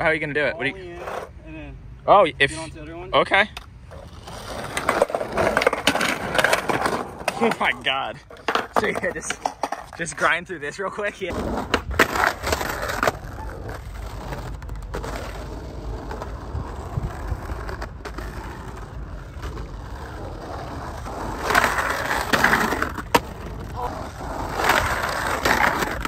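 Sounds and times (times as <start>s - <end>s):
skateboard wheels rolling on asphalt: 0.0s - 1.8s, 2.4s - 26.0s
skateboard clacks: 3.6s - 10.4s, 11.3s - 26.0s
skateboard grinding on metal curb: 3.9s - 10.4s, 11.2s - 26.0s.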